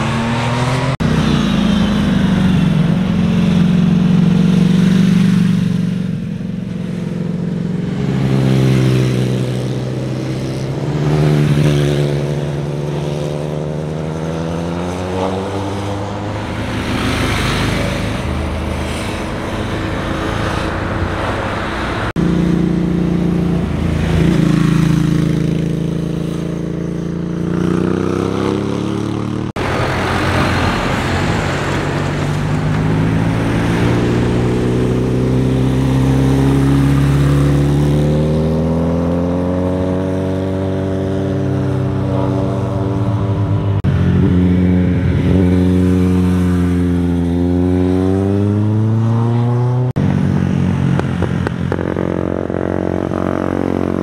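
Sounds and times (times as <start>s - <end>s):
motorcycle engines passing: 0.0s - 54.0s.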